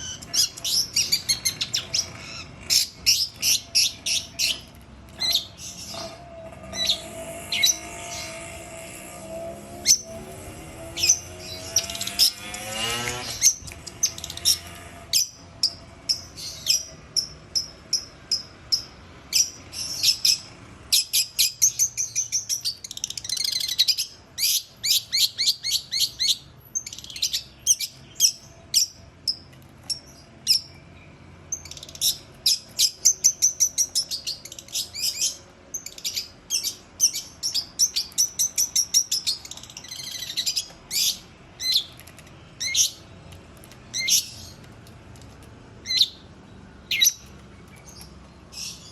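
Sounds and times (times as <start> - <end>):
bird singing sharp chattering notes: 0.0 - 8.7, 9.8 - 43.1, 45.8 - 48.9.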